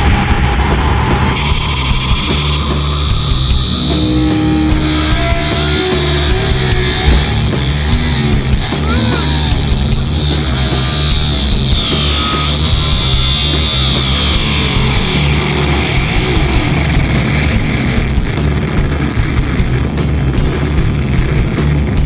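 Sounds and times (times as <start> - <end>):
rock music with guitar: 0.0 - 22.0.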